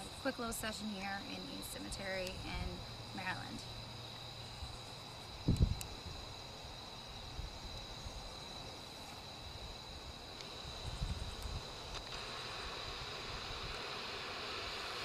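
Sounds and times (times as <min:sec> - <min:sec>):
night insects singing: 0:00.0 - 0:15.0.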